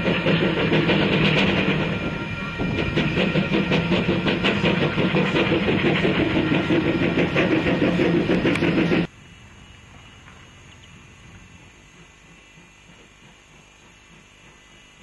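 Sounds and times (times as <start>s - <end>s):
steam hissing: 0.0s - 9.6s, 10.6s - 15.0s
steam locomotive beats and clanks: 0.0s - 15.0s.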